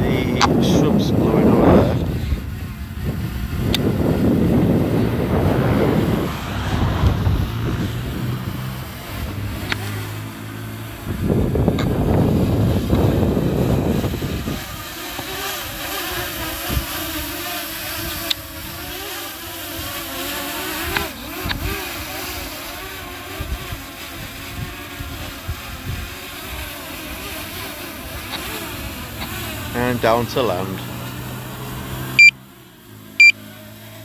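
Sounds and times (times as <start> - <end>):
wind buffeting microphone: 0.0 - 32.1
drone propellers buzzing: 0.0 - 34.0.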